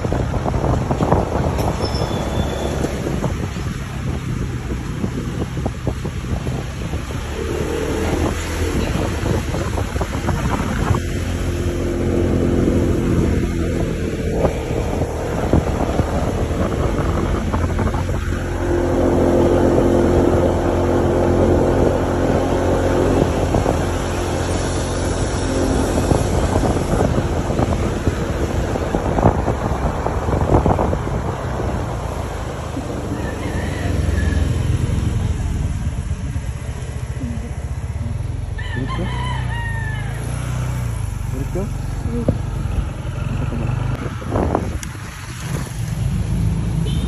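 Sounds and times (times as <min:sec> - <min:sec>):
wind buffeting microphone: 0:00.0 - 0:39.2, 0:40.1 - 0:46.8
vehicle engine running: 0:08.0 - 0:47.0.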